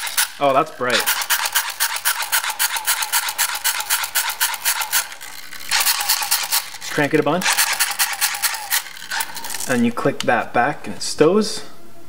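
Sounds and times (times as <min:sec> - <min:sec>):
flashlight crank whirring rattle: 0:00.0 - 0:10.0.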